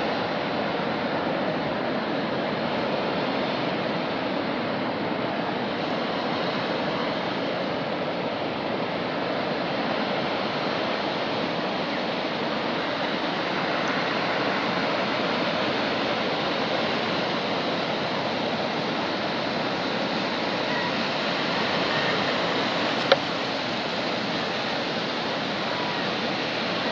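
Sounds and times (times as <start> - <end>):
water rushing through spillway: 0.0 - 26.9.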